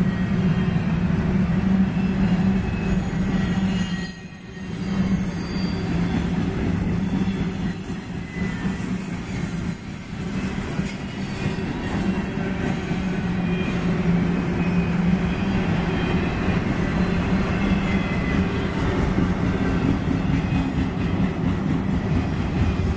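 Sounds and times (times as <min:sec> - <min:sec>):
train wheels rumbling on rails: 0:00.0 - 0:22.9.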